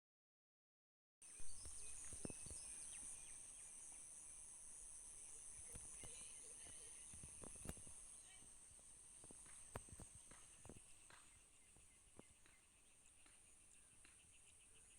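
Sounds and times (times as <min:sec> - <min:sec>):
insects trilling: 0:01.3 - 0:14.9
small bird chirps: 0:01.3 - 0:14.9.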